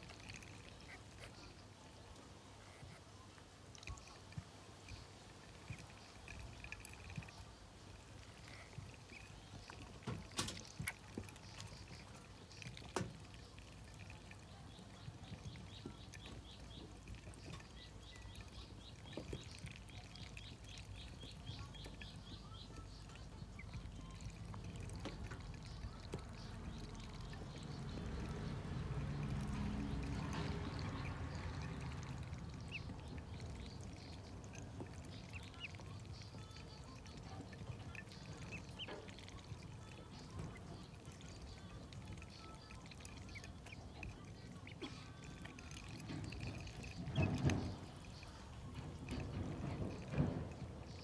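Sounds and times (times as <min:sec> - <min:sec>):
ducklings peeping: 0:00.0 - 0:03.0, 0:03.8 - 0:51.0
faint background noise: 0:00.0 - 0:51.0.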